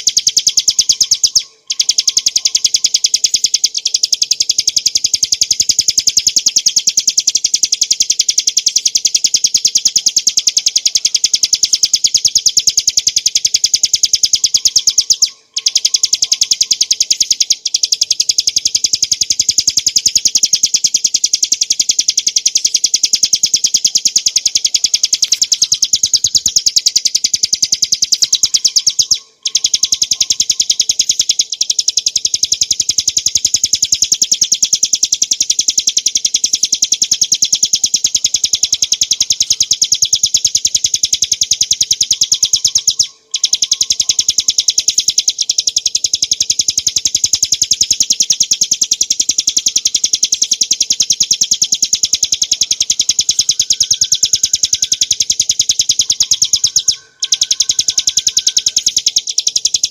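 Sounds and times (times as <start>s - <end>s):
bird singing fast rolling trill: 0.0s - 59.9s.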